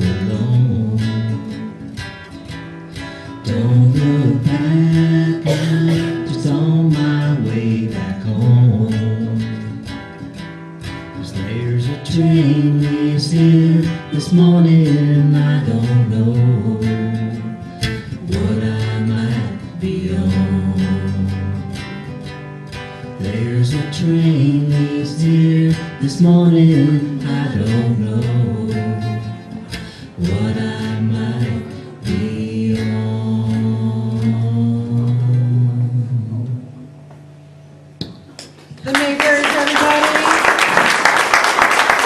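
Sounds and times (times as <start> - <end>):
acoustic guitar strumming: 0.0 - 38.6.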